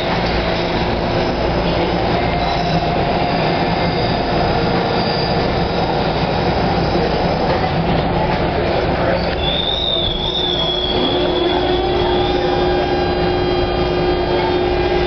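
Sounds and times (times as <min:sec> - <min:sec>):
rail and wheel noise: 0:00.0 - 0:15.0
train rumble and hum: 0:00.0 - 0:15.0.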